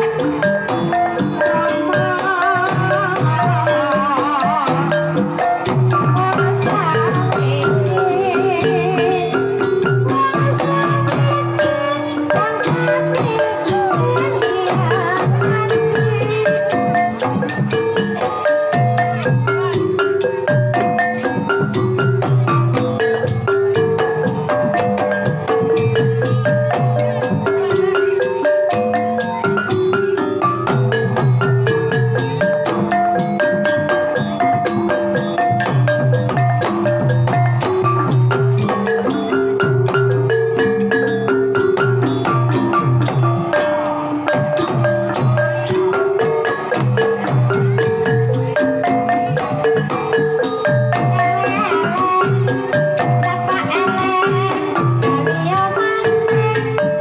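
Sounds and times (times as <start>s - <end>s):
hand drum rhythm: 0.0s - 57.0s
mallet-struck melodic notes: 0.0s - 57.0s.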